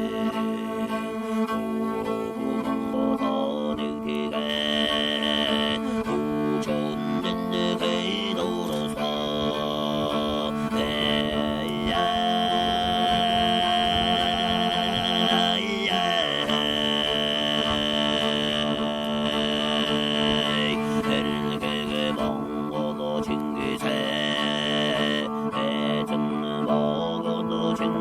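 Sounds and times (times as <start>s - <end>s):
throat singing drone: 0.0s - 28.0s.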